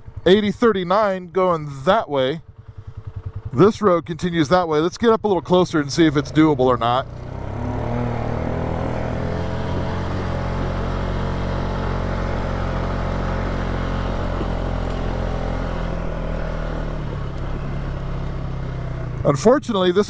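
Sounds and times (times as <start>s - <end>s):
quad engine running at low speed: 0.0s - 20.0s.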